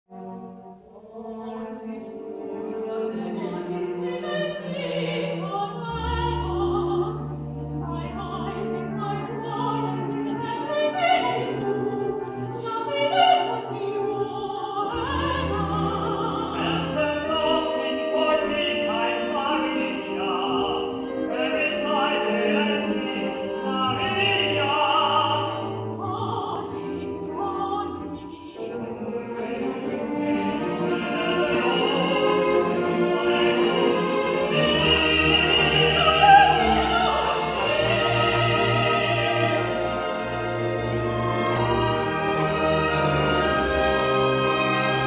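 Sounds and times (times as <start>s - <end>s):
symphony orchestra: 0.1s - 45.0s.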